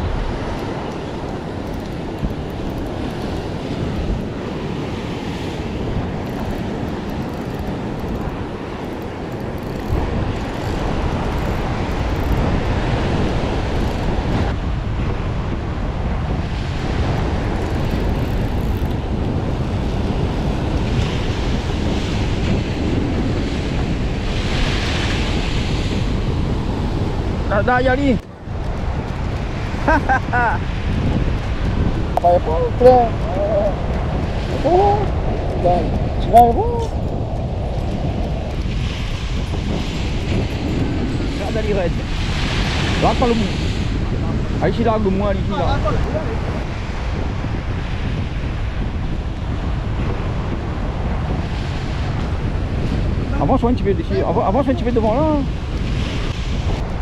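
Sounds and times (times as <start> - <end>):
surf breaking on rocks: 0.0 - 57.0
wind buffeting microphone: 0.0 - 57.0.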